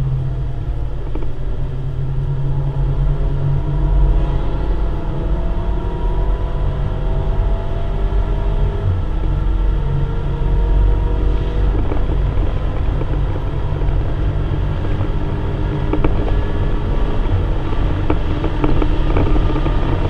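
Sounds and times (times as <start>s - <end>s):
car engine at full throttle: 0.0s - 20.0s
wind and road noise: 0.0s - 20.0s.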